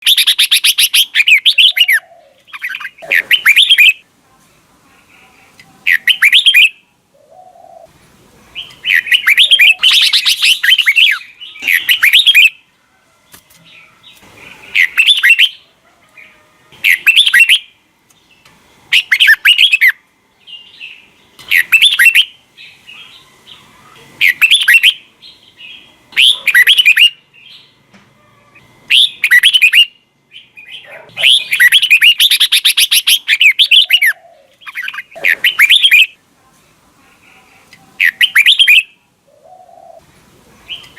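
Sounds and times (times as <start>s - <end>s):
bird singing warbled phrases: 0.0s - 4.1s, 5.0s - 7.9s, 8.5s - 12.7s, 13.7s - 27.8s, 28.5s - 36.2s, 37.9s - 40.0s, 40.6s - 40.9s.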